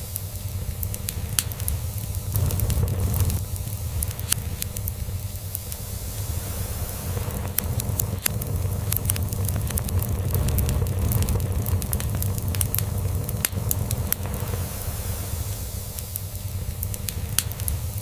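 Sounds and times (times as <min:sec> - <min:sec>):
log fire crackling and popping: 0:00.0 - 0:18.0.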